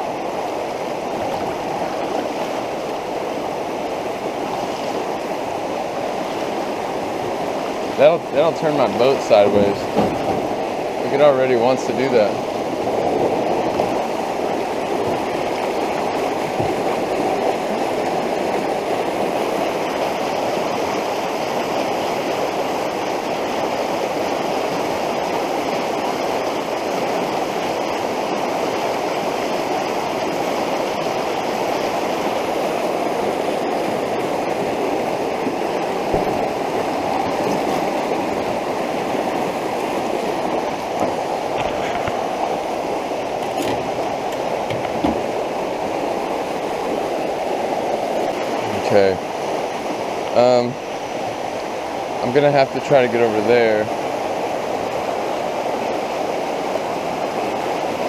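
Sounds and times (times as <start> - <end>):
flood water rushing: 0.0 - 58.0.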